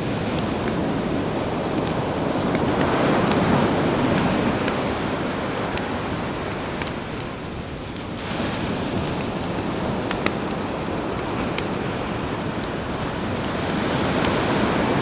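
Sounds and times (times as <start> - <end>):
campfire crackling with pops: 0.0 - 15.0
sea waves washing in: 0.0 - 15.0.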